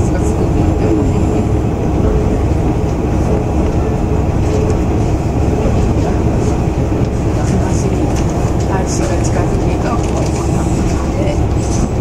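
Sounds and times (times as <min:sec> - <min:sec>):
diesel railcar engine drone: 0:00.0 - 0:12.0
train wheels on rails: 0:00.0 - 0:12.0.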